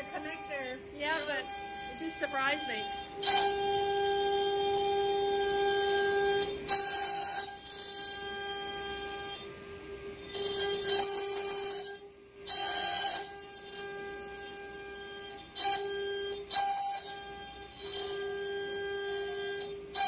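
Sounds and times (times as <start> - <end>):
router spindle high whine: 0.0 - 20.0.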